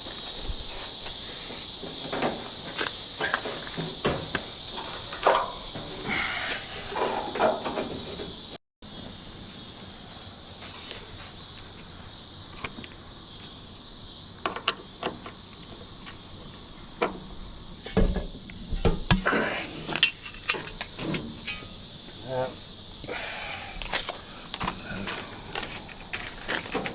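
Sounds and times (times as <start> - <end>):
steady high hiss: 0.0 - 26.9.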